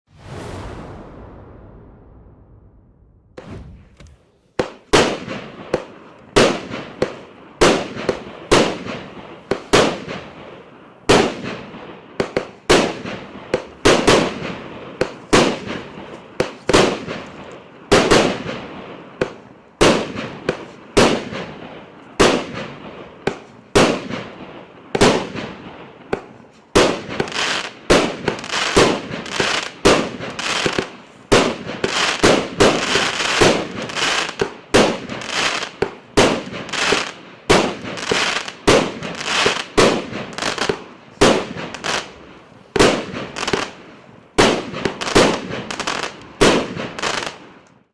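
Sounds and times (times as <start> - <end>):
firework crackle: 0.1 - 47.8
firework shots: 0.1 - 47.9.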